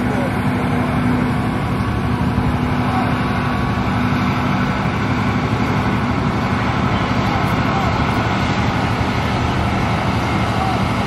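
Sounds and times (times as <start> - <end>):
ship engine and conveyor machinery: 0.0 - 11.0.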